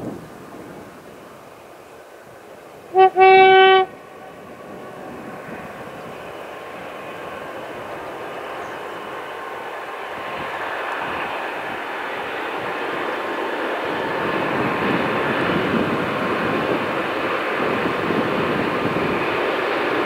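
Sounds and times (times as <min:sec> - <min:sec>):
diesel train rumbling on rails: 0:00.0 - 0:20.0.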